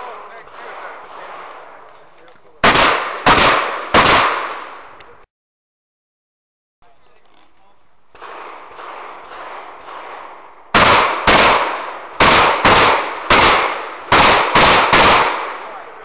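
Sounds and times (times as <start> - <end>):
shotgun shots: 0.0 - 5.0, 8.1 - 16.0
background noise: 0.0 - 5.3, 6.8 - 16.0.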